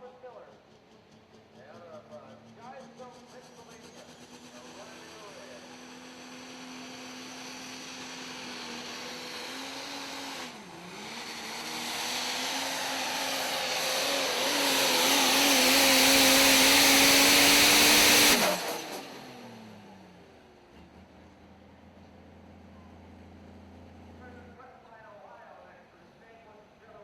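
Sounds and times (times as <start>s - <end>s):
diesel truck engine at full power: 0.0s - 24.7s.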